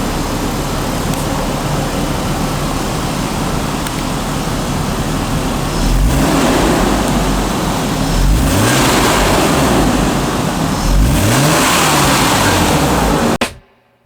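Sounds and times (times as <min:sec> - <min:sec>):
car engine revving under load: 0:00.0 - 0:13.6
rushing road noise: 0:00.0 - 0:13.6.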